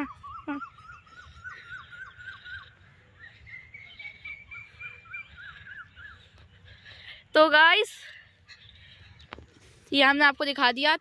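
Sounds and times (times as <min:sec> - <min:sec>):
birds calling: 0:00.0 - 0:10.9.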